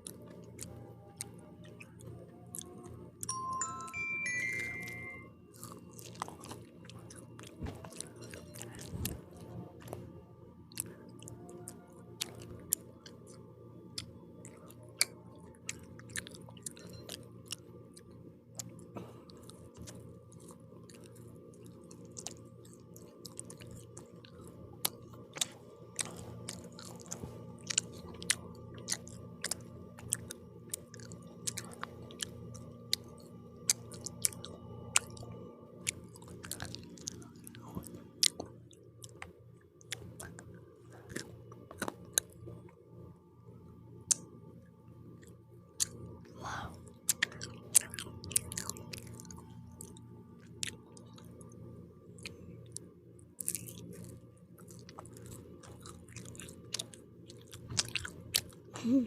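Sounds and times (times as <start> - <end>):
chewing crunchy pizza crust: 0.0 - 3.3, 5.5 - 42.8, 43.5 - 59.0
steady low hum: 0.0 - 59.0.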